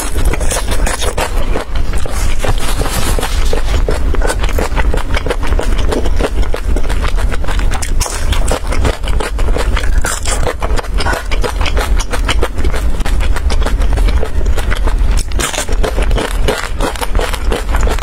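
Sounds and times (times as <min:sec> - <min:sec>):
steady low hum: 0:00.0 - 0:18.0
wet chewing and mouth smacks: 0:00.0 - 0:18.0.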